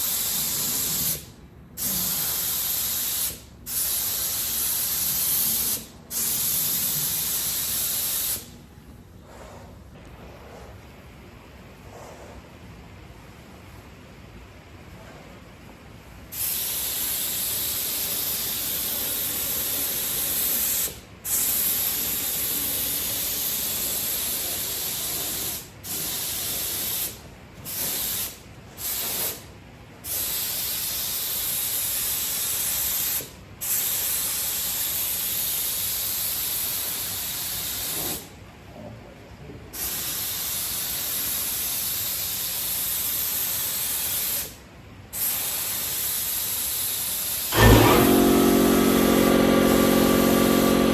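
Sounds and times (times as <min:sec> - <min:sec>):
hissing bursts of spray: 0:00.0 - 0:08.5, 0:16.3 - 0:38.3, 0:39.8 - 0:44.6, 0:45.2 - 0:50.9.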